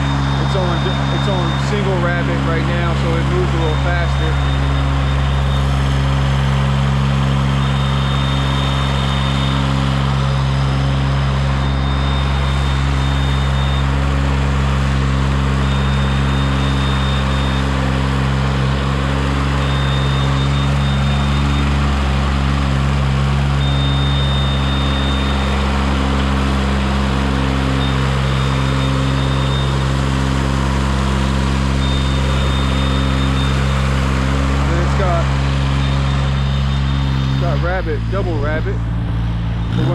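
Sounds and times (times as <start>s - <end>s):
high warning beep: 0.0s - 39.9s
tracked lift engine running: 0.0s - 39.9s.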